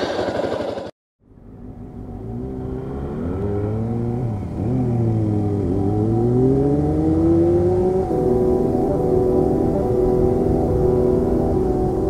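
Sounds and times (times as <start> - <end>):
motorcycle engine accelerating: 0.0 - 12.0
road noise: 0.0 - 12.0.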